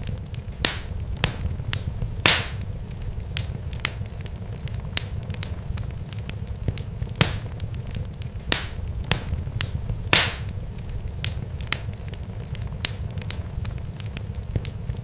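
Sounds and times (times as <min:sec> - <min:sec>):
fire crackling and popping: 0:00.0 - 0:15.0
low rumble: 0:00.0 - 0:15.0.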